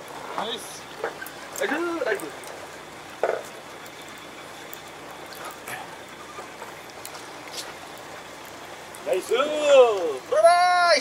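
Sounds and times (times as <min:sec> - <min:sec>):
sea water washing: 0:00.0 - 0:11.0.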